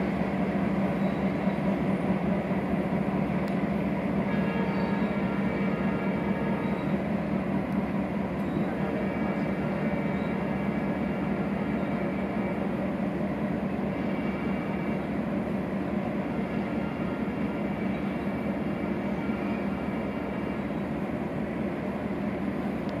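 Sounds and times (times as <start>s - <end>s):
diesel locomotive engine droning: 0.0s - 23.0s.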